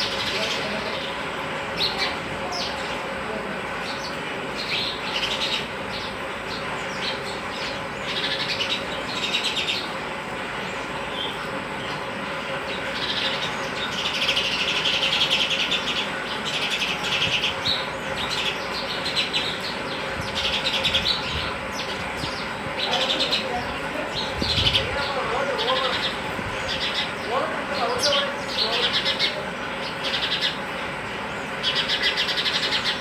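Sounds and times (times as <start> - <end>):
sparrows chirping: 0.0 - 33.0
steady background noise: 0.0 - 33.0.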